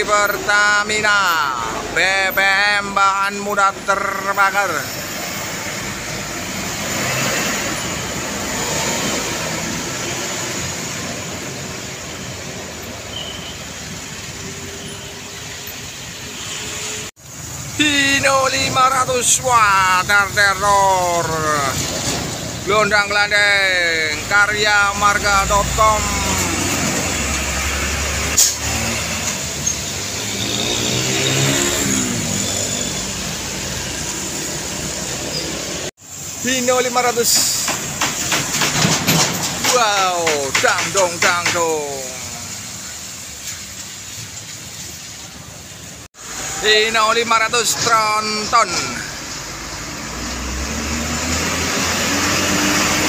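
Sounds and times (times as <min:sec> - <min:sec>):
heavy trucks passing: 0:00.0 - 0:53.0.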